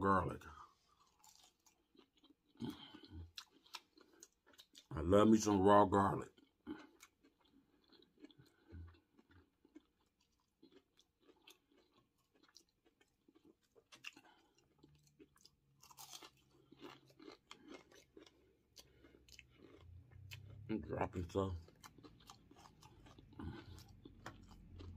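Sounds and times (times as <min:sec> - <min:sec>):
chewing crunchy fried food: 0:00.2 - 0:24.9.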